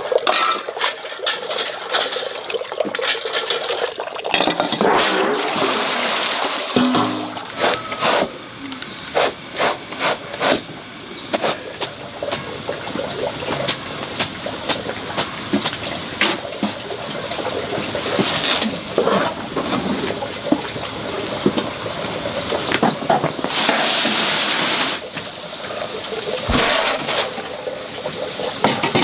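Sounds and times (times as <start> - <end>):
running or splashing water: 0.0 - 8.4, 9.4 - 29.0.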